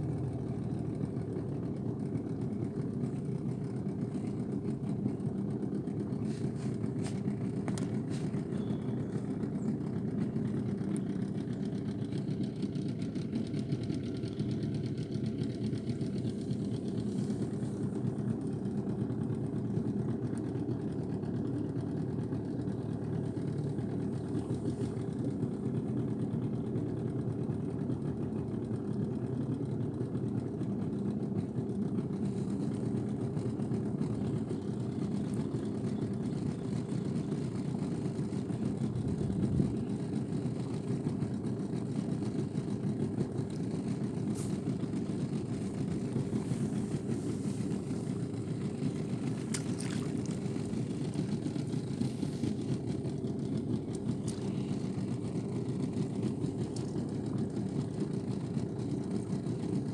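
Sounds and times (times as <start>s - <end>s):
outboard motor droning: 0.0s - 59.9s.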